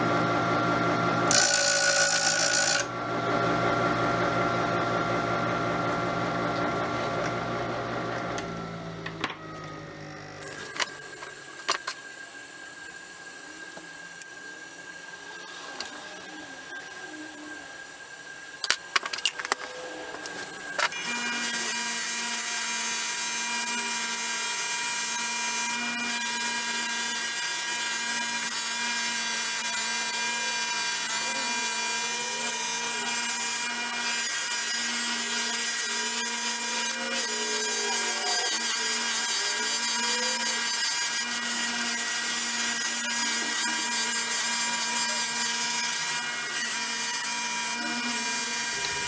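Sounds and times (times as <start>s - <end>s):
electric power tool humming: 0.0s - 49.0s.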